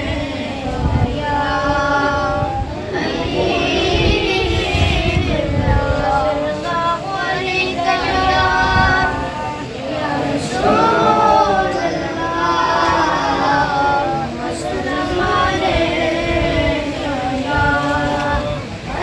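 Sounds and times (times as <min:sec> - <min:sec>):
voices singing a devotional chant: 0:00.0 - 0:19.0.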